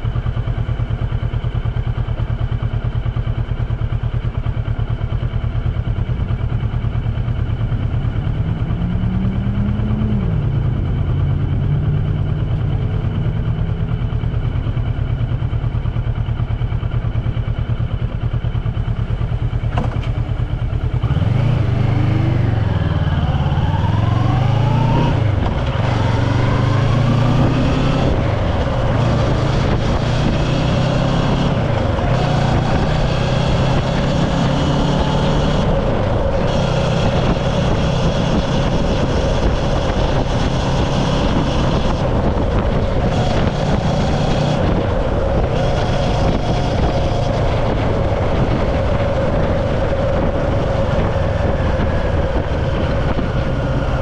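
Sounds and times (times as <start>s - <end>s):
motor running with low drone: 0.0s - 54.0s.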